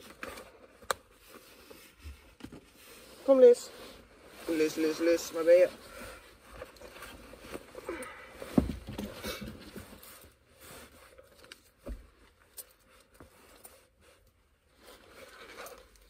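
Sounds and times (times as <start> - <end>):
fabric rustling and handling: 0.0 - 16.0.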